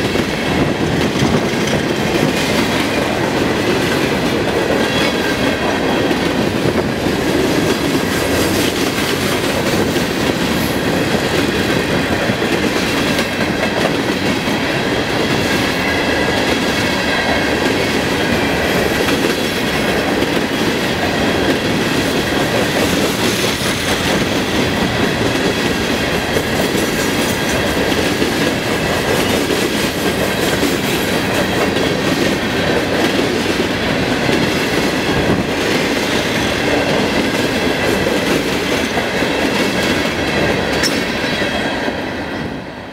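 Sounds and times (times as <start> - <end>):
steel wheels running on rails: 0.0 - 42.9.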